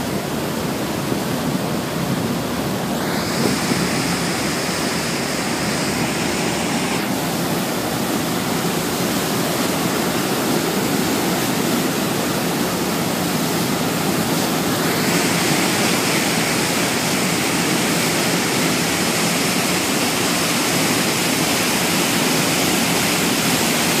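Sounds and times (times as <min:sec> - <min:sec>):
boat wake water rushing: 0:00.0 - 0:24.0.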